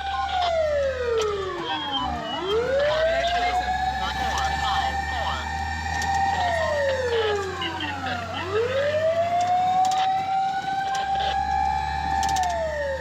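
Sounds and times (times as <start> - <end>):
fire truck siren wailing: 0.0 - 13.0
truck engine drone: 0.0 - 13.0.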